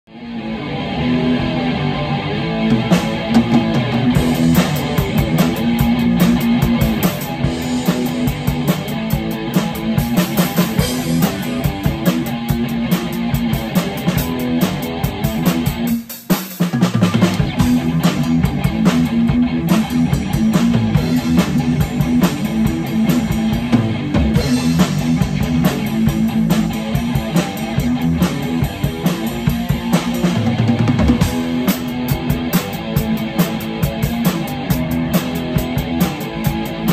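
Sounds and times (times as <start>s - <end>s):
electric guitar: 0.0s - 16.2s, 16.8s - 36.9s
drum and cymbal hits: 2.6s - 36.9s.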